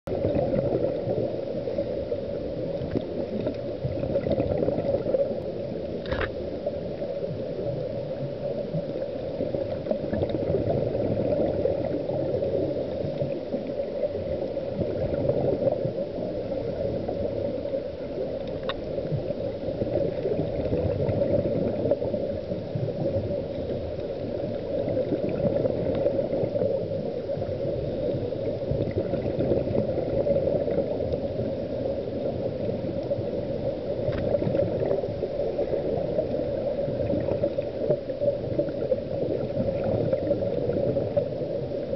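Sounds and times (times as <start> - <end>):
muffled underwater rushing: 0.1 - 41.9
regulator breathing and bubbles: 0.1 - 41.9.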